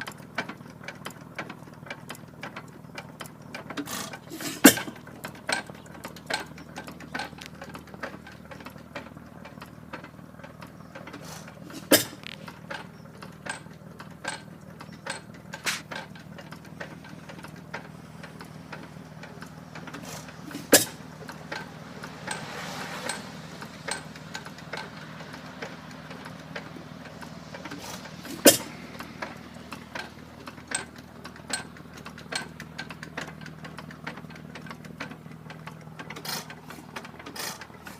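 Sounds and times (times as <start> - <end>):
engine coasting hum: 0.0 - 37.9
valve gear clicking: 0.0 - 37.9.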